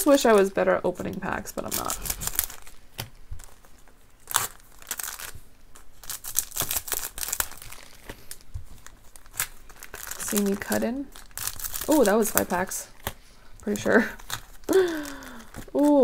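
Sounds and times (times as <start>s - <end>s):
foil wrappers crinkling: 0.0s - 16.0s.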